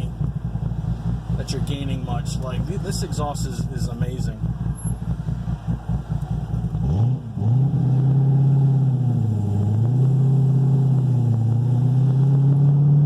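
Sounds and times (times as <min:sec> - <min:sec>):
car engine exhaust revving: 0:00.0 - 0:13.0.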